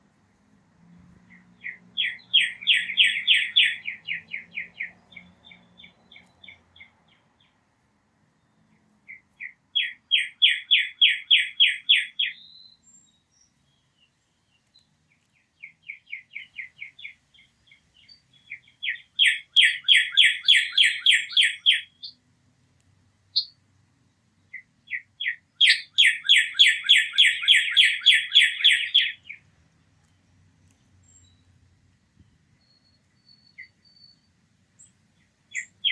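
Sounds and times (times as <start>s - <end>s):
songbird trilling: 1.3s - 7.6s, 9.1s - 22.2s, 23.3s - 29.5s, 30.6s - 31.6s, 32.2s - 35.9s.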